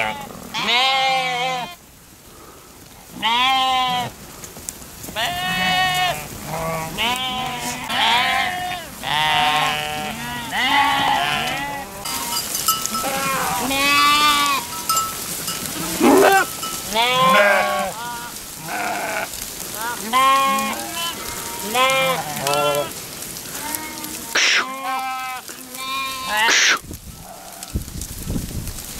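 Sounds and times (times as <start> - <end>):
sheep bleating: 0.0 - 1.8, 3.1 - 4.2, 5.2 - 14.9, 15.7 - 26.8.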